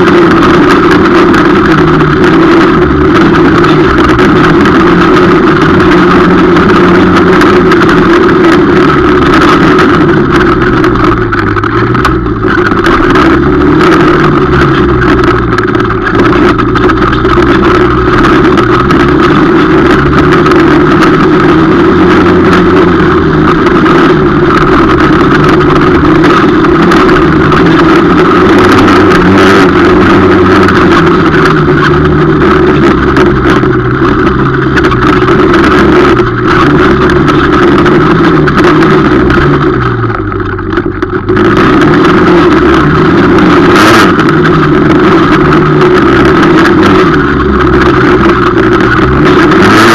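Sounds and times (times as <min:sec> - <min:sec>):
quad engine running hard: 0:00.0 - 0:49.9.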